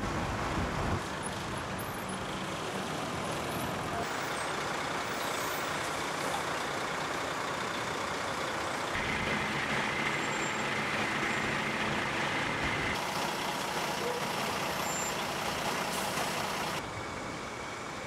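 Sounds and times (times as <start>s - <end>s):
heavy vehicle engines running: 0.0s - 18.0s.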